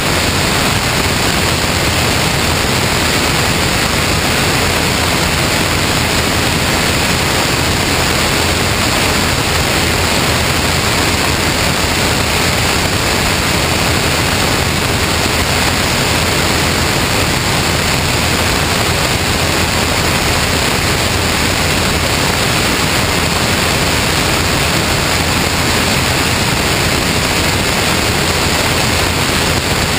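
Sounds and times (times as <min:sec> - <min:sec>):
airflow rushing over camera: 0:00.0 - 0:29.9.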